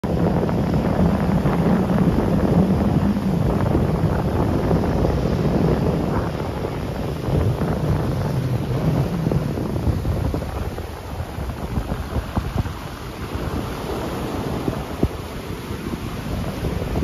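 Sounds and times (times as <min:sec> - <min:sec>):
waves breaking on sand and rocks: 0:00.0 - 0:17.0
wind buffeting microphone: 0:00.0 - 0:17.0.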